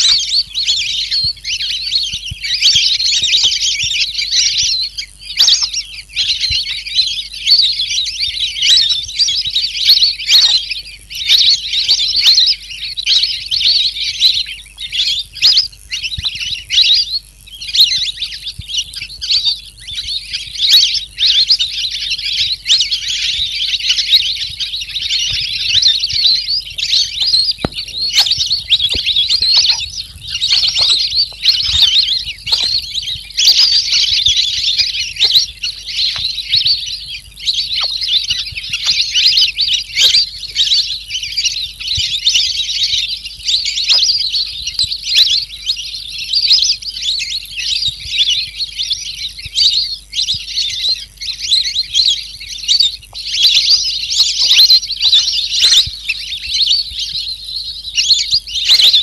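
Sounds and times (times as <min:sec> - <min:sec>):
bird chattering high-pitched: 0:00.0 - 0:48.5, 0:49.2 - 0:57.3.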